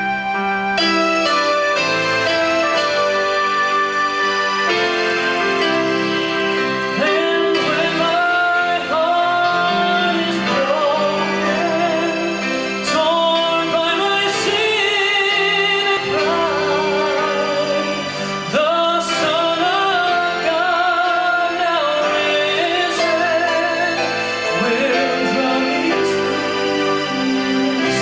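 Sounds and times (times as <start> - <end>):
instrumental accompaniment: 0.0 - 28.0
person singing with vibrato: 0.0 - 28.0.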